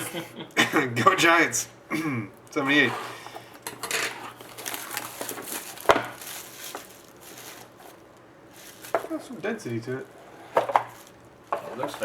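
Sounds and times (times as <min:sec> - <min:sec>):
wrapper and cardboard crinkling: 0:02.4 - 0:12.0.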